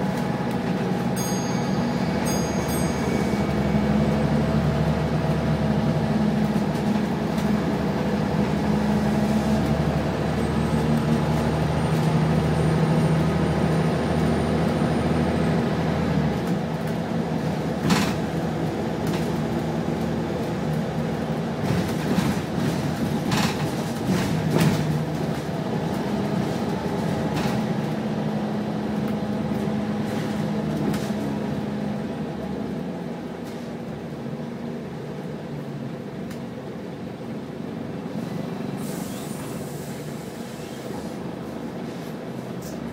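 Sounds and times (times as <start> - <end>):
bus body rattling: 0.0 - 42.9
bus engine hum: 0.0 - 42.9.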